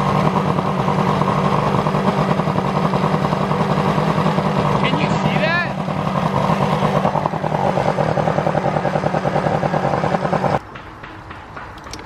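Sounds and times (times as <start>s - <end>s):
outboard motor idling: 0.0s - 10.6s.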